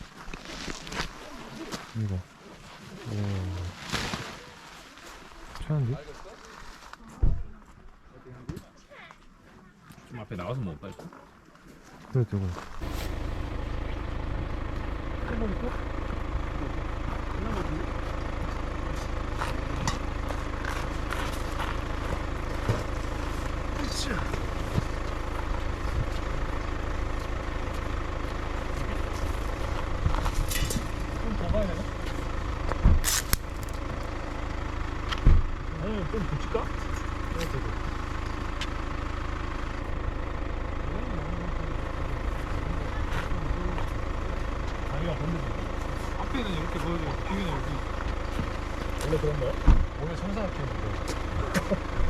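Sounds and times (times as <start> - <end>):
low engine rumble: 0.0 - 52.0.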